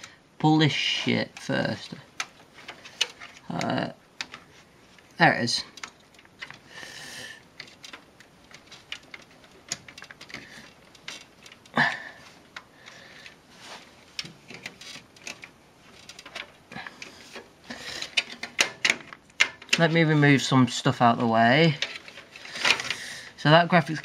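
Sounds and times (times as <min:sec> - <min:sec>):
clicks and rustles of cables: 0:01.1 - 0:24.0.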